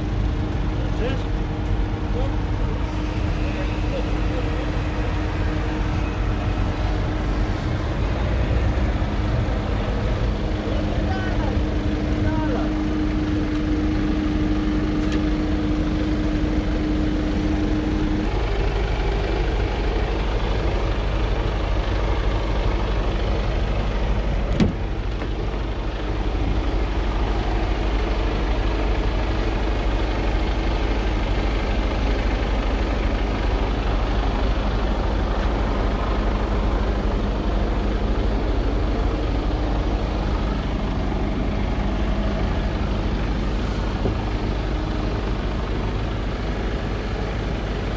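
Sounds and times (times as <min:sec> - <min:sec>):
truck diesel engine idling: 0:00.0 - 0:47.9.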